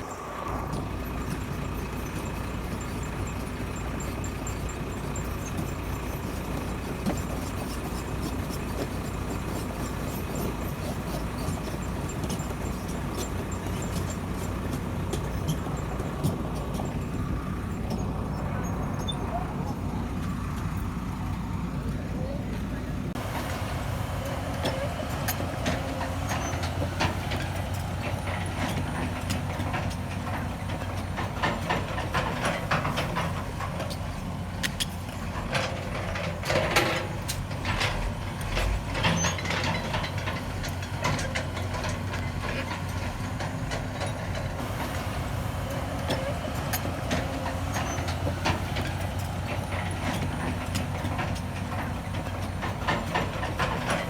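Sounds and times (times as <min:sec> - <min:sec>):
metal knocks and clanks: 0:00.0 - 0:20.9, 0:23.1 - 0:54.0
diesel engine running: 0:00.0 - 0:54.0.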